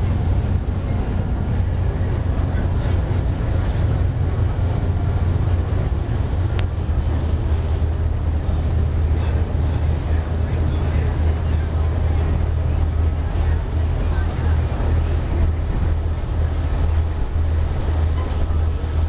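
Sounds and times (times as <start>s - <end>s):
ferry engine drone: 0.0s - 19.0s
water noise: 0.0s - 19.0s
wind: 0.0s - 19.0s.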